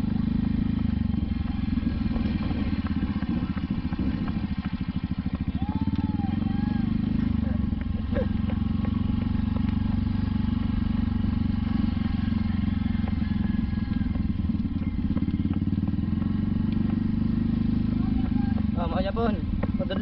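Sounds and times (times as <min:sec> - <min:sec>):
motor scooter engine running: 0:00.0 - 0:20.0.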